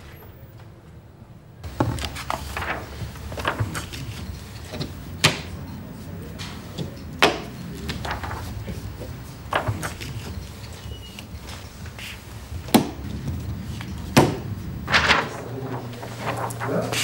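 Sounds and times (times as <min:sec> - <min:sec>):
paper rustling and shuffling: 0:01.6 - 0:17.0.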